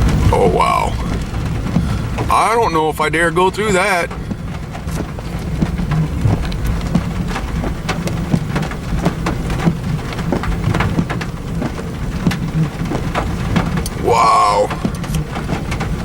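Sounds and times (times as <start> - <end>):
heavy rain on a vehicle: 0.0 - 16.0
low vehicle rumble: 0.0 - 16.0.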